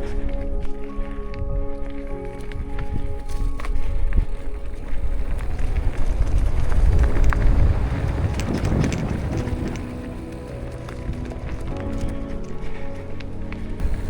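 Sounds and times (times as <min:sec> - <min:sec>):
wind buffeting microphone: 0:00.0 - 0:14.0
bike frame rattling: 0:02.3 - 0:14.0.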